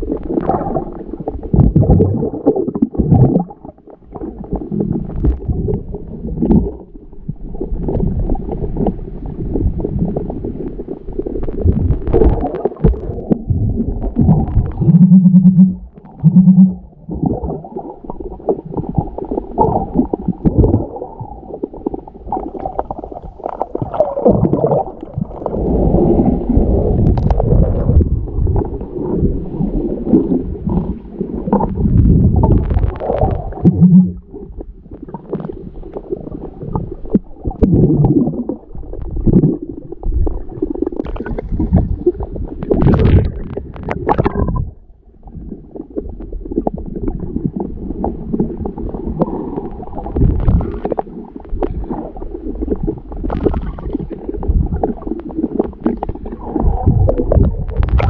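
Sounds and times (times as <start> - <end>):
water gurgling underwater: 0.0 - 58.0.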